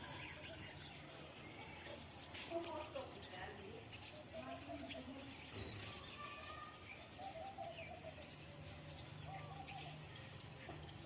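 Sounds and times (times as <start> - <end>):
bird chirps: 0.0 - 11.0
low repeated bird notes: 0.0 - 11.0.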